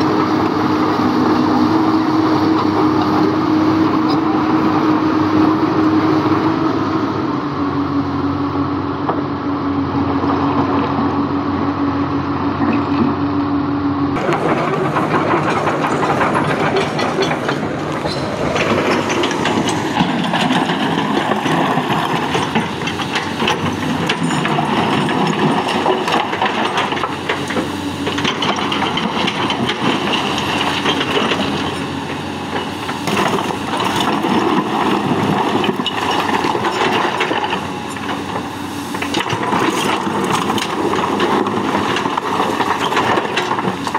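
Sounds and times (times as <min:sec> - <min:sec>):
excavator diesel engine under load: 0:00.0 - 0:43.9.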